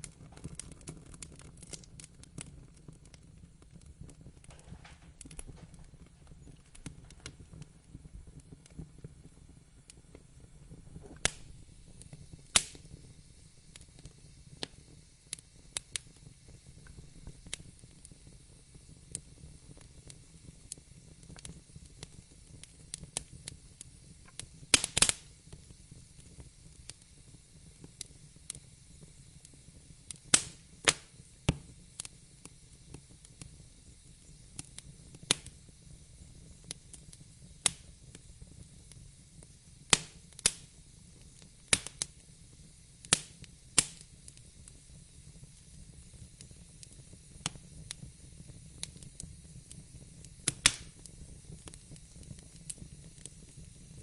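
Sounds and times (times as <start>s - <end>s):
fire crackles and pops: 0.0s - 54.0s
fire hissing: 0.0s - 54.0s.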